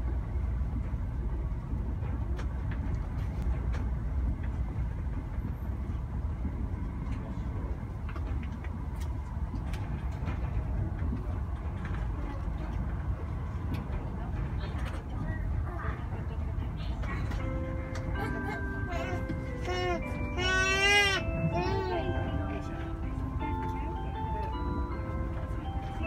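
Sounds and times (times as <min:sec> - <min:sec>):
train running rumble: 0:00.0 - 0:26.0.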